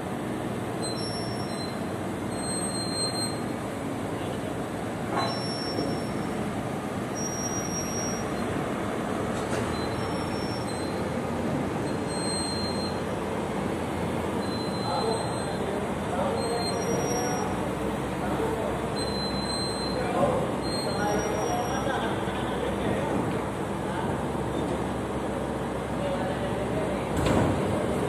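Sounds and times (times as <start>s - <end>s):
crane machinery running: 0.0s - 28.0s.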